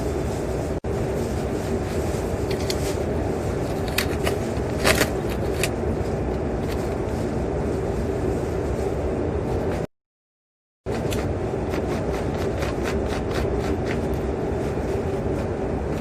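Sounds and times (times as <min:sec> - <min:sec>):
vehicle engine rumble: 0:00.0 - 0:09.9, 0:10.9 - 0:16.0.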